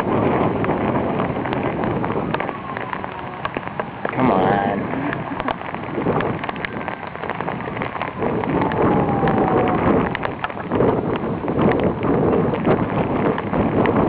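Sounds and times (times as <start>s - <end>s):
heavy rain: 0.0s - 14.0s
raindrops clicking on a surface: 0.0s - 14.0s.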